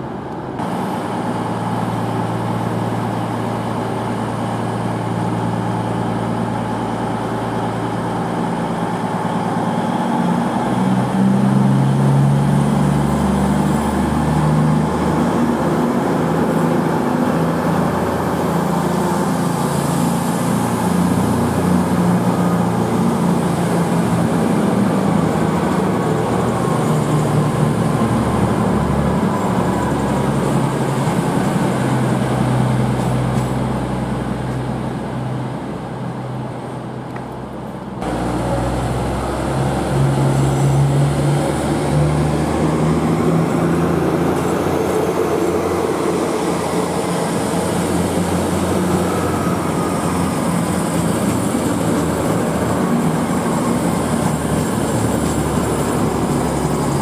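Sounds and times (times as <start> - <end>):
diesel train engines: 0.0 - 57.0.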